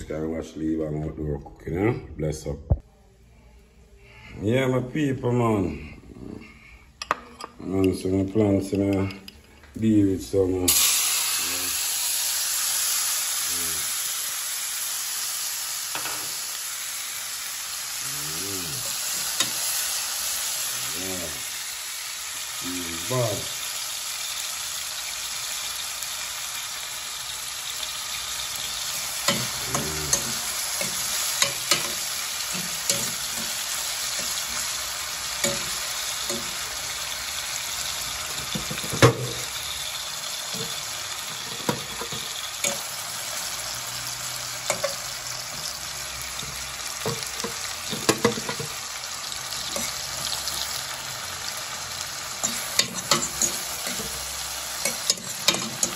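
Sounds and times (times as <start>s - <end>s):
onions sizzling in hot oil: 10.6s - 55.9s.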